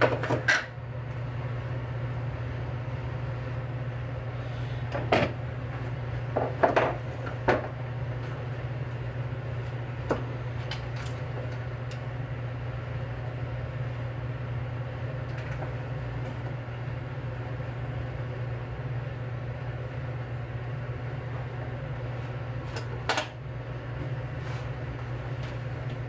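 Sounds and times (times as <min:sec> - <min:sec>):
gas stove burner rumble: 0:00.0 - 0:26.0.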